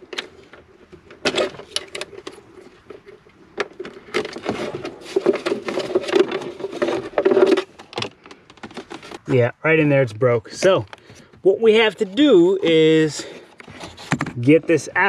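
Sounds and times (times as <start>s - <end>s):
hard plastic scraping and rustling: 0.0s - 9.5s, 10.6s - 15.0s.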